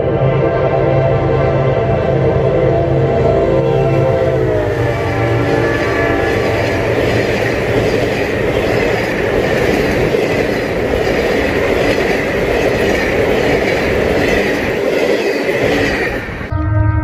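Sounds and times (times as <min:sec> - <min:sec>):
train wheels rushing on rails: 0:01.9 - 0:16.5.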